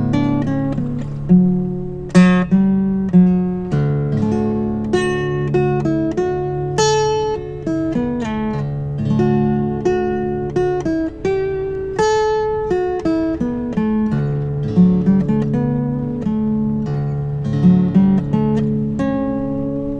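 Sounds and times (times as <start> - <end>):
acoustic guitar instrumental: 0.0 - 19.9.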